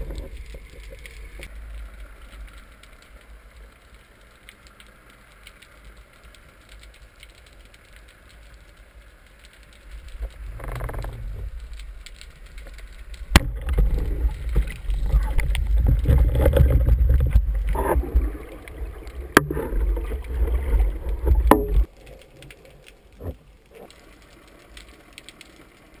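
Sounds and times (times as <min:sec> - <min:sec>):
faint underwater clicks: 0:00.0 - 0:26.0.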